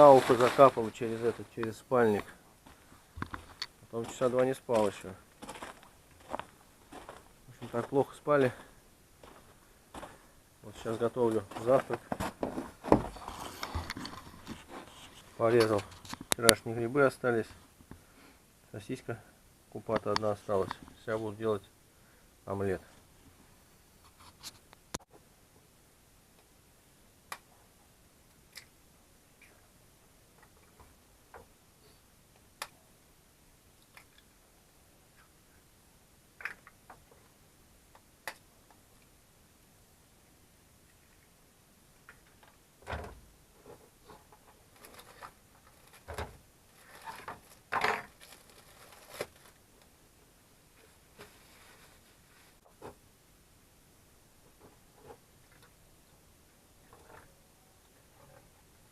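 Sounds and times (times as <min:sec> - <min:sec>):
faint steady background noise: 0:00.0 - 0:58.9.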